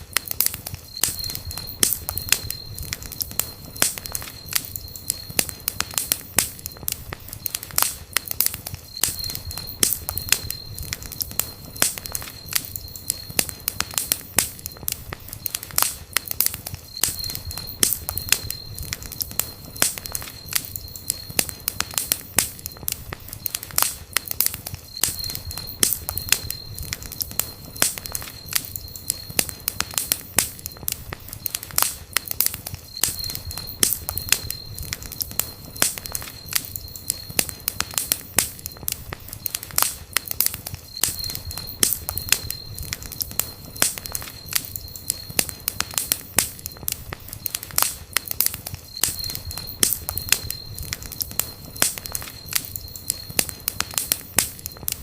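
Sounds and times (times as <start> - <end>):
campfire crackling: 0.0 - 55.0
sharp pops and snaps: 0.0 - 55.0.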